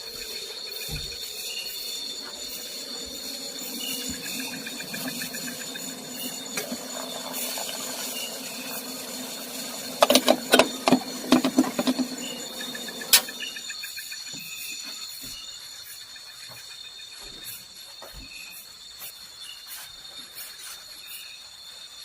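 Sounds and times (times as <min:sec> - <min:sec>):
night insects chirring: 0:00.0 - 0:22.0.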